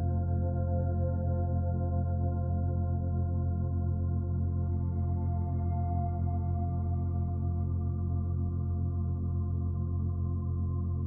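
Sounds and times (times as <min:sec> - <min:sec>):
ambient music with held chords: 0:00.0 - 0:11.0.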